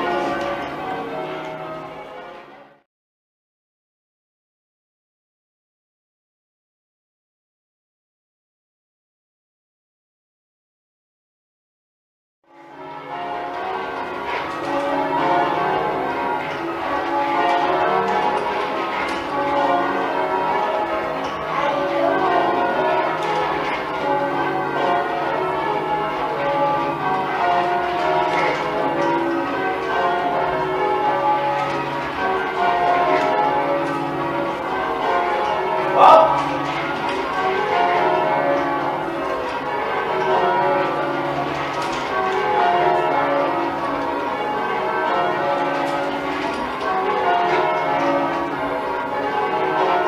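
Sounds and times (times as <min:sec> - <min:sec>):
church bells change-ringing: 0:00.0 - 0:02.8, 0:12.5 - 0:50.0.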